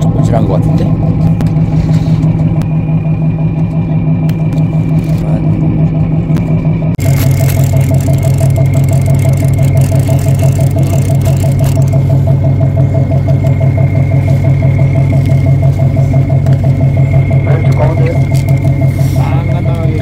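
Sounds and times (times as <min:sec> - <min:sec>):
boat engine throbbing: 0:00.0 - 0:20.0
thin steady whine: 0:00.0 - 0:20.0.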